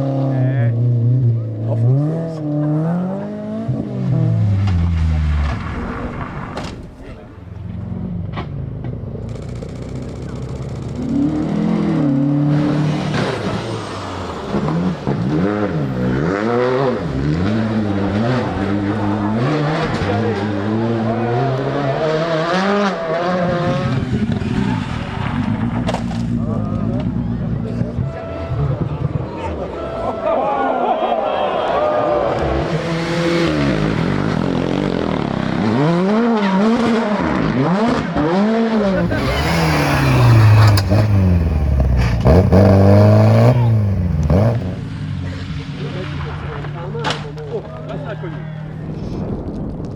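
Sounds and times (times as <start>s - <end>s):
rally car engine revving: 0.0s - 29.8s, 32.3s - 49.0s.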